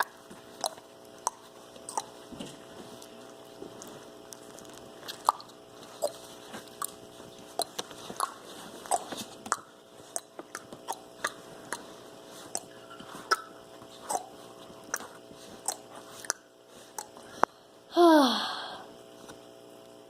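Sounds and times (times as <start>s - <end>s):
crunchy chewing: 0.0s - 17.3s
faint steady hum: 0.0s - 20.0s.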